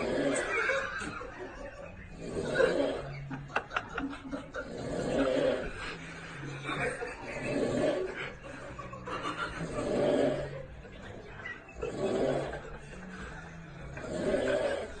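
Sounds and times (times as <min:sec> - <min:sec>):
person snoring: 0:00.0 - 0:01.1, 0:02.0 - 0:03.4, 0:04.3 - 0:15.0.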